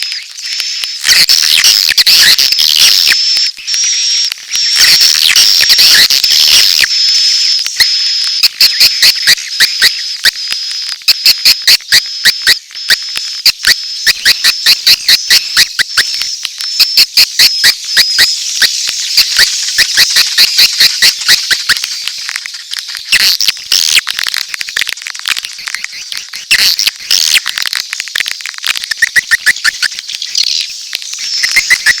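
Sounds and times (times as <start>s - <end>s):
high-pitched chirping twitter: 0.0s - 22.3s, 25.9s - 32.0s
swiftlet calls sharp clicks: 0.0s - 32.0s.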